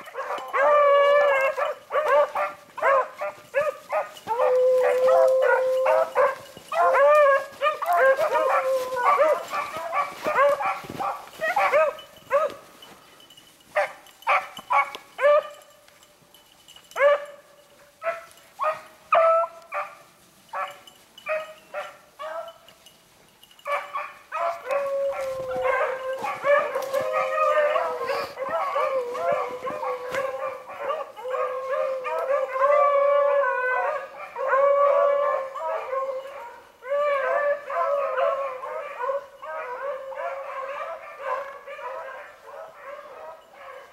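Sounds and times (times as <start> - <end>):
hounds baying: 0.0 - 43.9.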